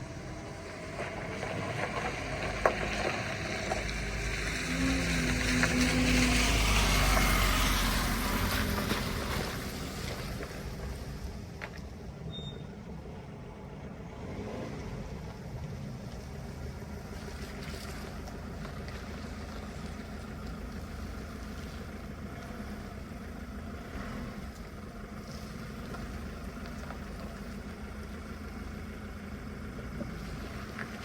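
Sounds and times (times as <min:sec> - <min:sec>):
road and wind noise: 0:00.0 - 0:31.0
vehicle engine running: 0:00.0 - 0:31.0.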